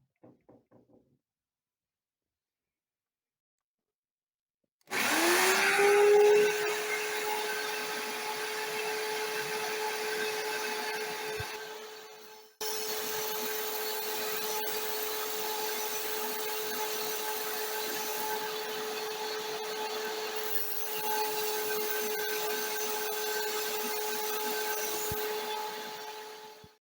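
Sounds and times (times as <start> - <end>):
electric drill motor hum: 4.9 - 26.8.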